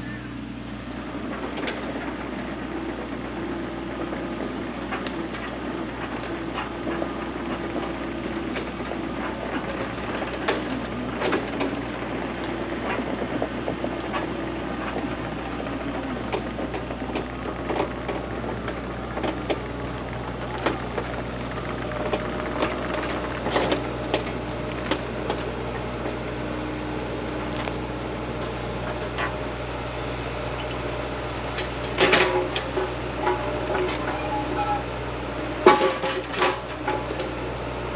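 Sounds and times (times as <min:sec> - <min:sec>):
diesel engine running: 0:00.0 - 0:37.9
machinery knocks and clanks: 0:01.3 - 0:29.7, 0:30.4 - 0:37.5.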